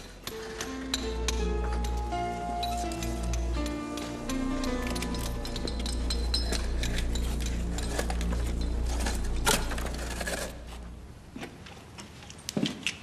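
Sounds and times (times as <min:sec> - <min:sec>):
metallic clinks and knocks: 0:00.0 - 0:10.6.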